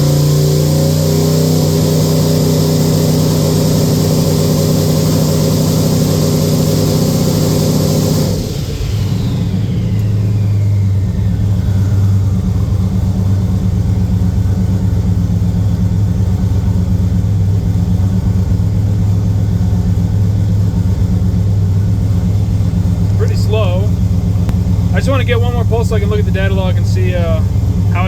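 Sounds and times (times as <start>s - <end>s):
pickup engine idling: 0.0s - 28.0s
turbo whine: 0.0s - 28.0s.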